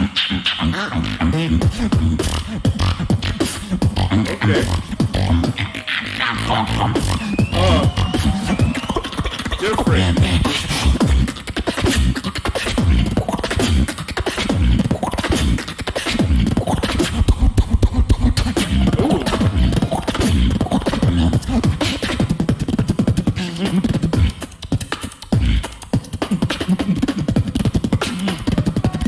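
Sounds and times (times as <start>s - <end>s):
person beatboxing: 0.0s - 29.0s.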